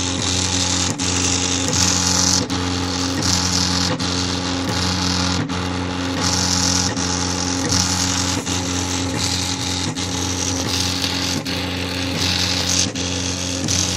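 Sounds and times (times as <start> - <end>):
stepper motors whining: 0.0 - 13.9.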